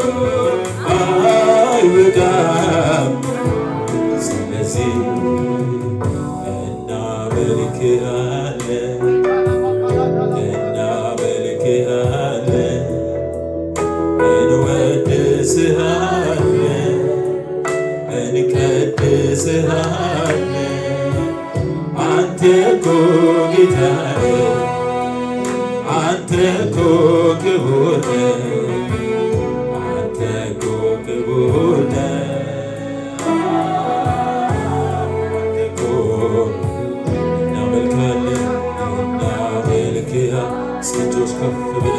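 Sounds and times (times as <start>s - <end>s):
man singing into a microphone: 0.0s - 13.4s, 14.2s - 41.9s
instrumental accompaniment: 0.0s - 41.9s.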